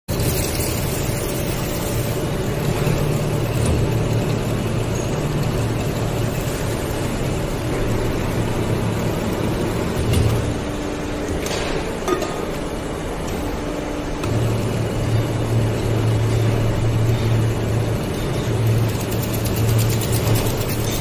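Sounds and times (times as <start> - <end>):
rough noise of spinning metal container: 0.1 - 11.1, 14.4 - 21.0
machine low mechanical hum: 0.1 - 21.0.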